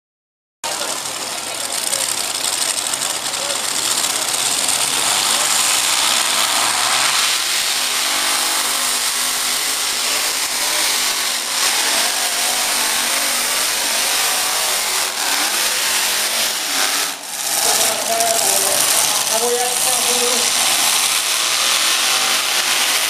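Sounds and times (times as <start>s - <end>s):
tractor engine at full throttle: 0.6s - 23.0s.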